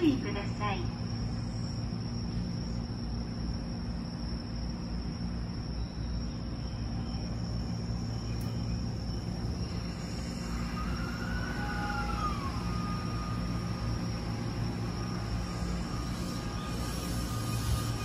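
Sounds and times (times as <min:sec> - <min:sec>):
electric train low hum: 0:00.0 - 0:18.0.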